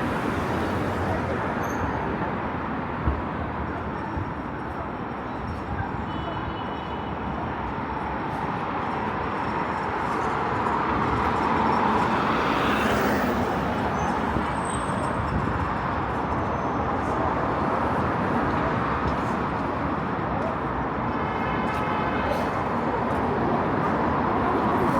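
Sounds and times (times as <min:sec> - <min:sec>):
city road traffic: 0:00.0 - 0:24.9.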